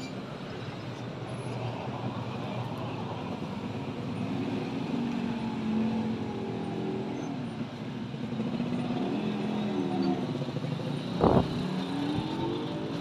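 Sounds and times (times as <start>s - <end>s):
steady traffic noise: 0.0s - 13.0s
vehicle engines passing: 0.2s - 13.0s.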